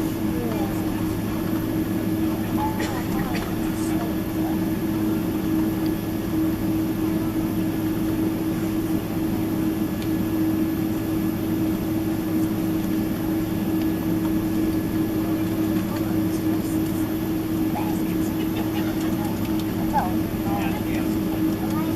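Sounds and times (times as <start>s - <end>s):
airplane cabin drone: 0.0s - 21.9s.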